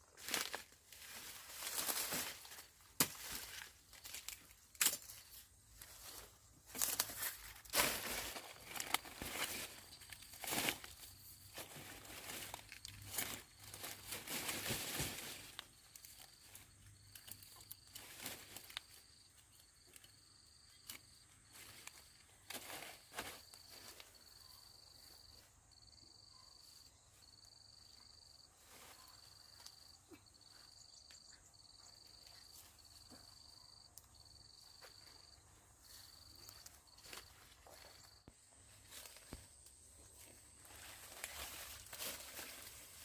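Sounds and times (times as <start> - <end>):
faint insect chirping: 0.0 - 43.0.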